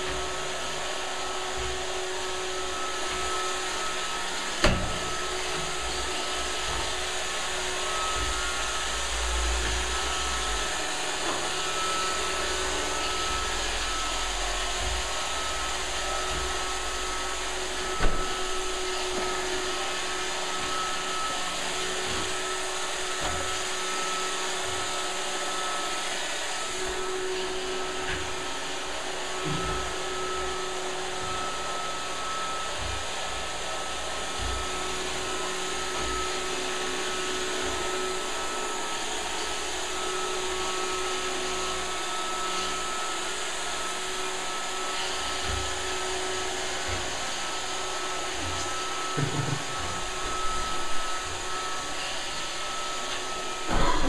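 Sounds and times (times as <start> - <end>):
robot vacuum motor whining: 0.0 - 54.0.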